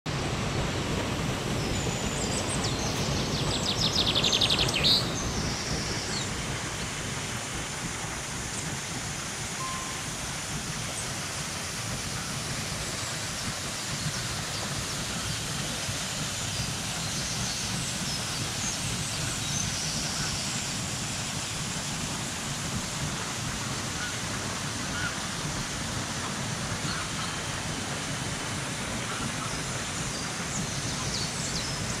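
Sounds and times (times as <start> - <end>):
waterfall rushing over rocks: 0.1 - 32.0.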